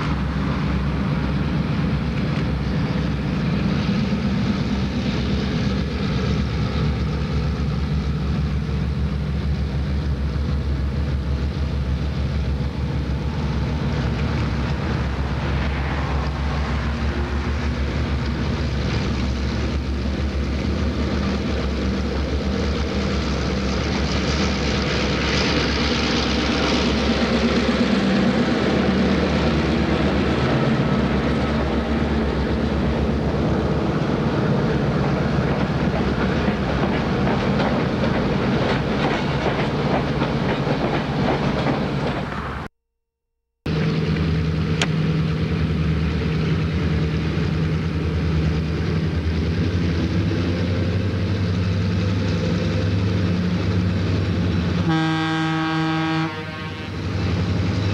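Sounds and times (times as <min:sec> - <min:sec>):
diesel locomotives running past: 0:00.0 - 0:42.7, 0:43.7 - 0:57.9
passenger coaches rolling past: 0:00.0 - 0:42.7, 0:43.7 - 0:57.9.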